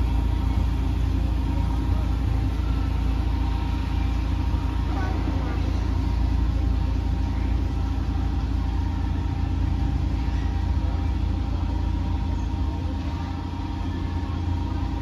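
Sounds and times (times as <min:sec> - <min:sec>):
boat motor humming: 0:00.0 - 0:15.0
faint even whine: 0:00.0 - 0:15.0.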